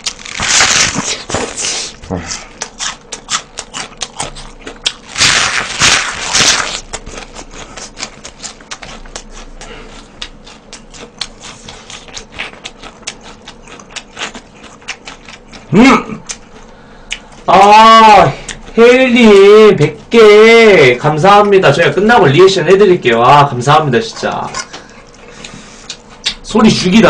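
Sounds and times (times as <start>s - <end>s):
cabbage leaves crunching when chewed: 0.0s - 21.7s.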